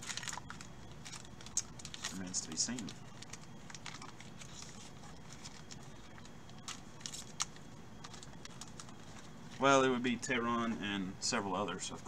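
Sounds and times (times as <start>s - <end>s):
cards rustling: 0.0s - 9.9s
foil wrapper crinkling: 0.0s - 9.9s.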